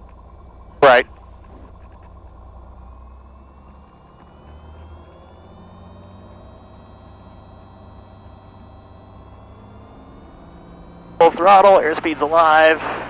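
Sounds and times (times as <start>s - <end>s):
aircraft engine drone with whine: 0.0s - 13.0s.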